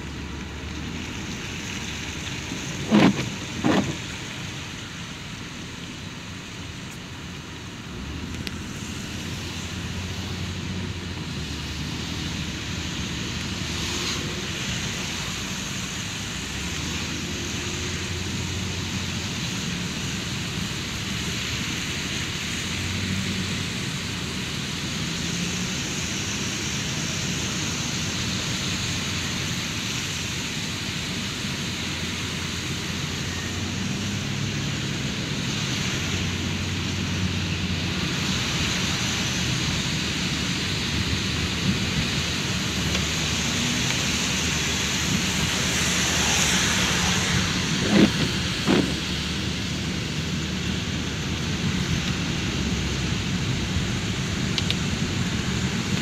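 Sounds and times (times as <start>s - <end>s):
low rumble of car in traffic: 0.0s - 56.0s
rain on car roof and glass: 0.0s - 56.0s.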